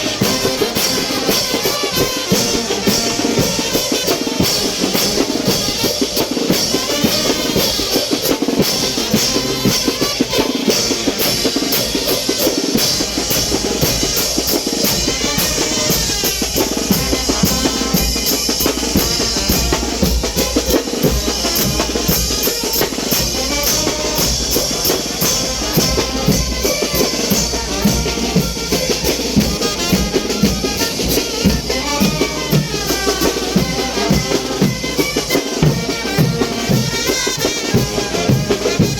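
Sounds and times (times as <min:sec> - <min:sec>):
bass drum and snare beat: 0:00.0 - 0:38.9
wind band horns: 0:00.0 - 0:38.9.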